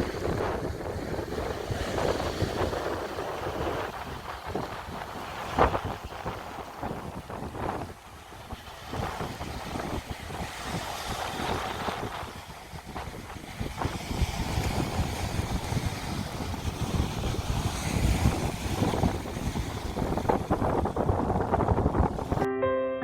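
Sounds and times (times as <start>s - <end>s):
waves washing on beach: 0.0s - 22.4s
wind buffeting microphone: 0.0s - 22.5s.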